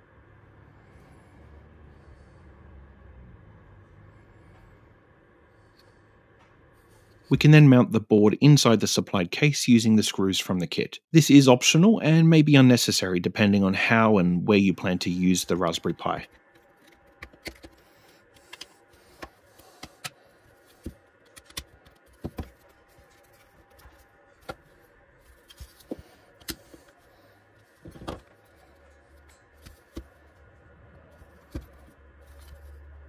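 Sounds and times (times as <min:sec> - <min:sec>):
low hum: 0:00.0 - 0:08.4, 0:13.5 - 0:33.0.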